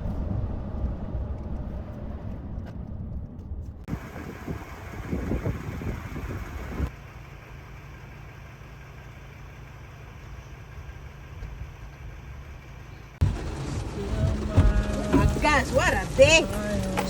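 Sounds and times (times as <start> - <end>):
car engine rumble and road noise: 0.0 - 17.0.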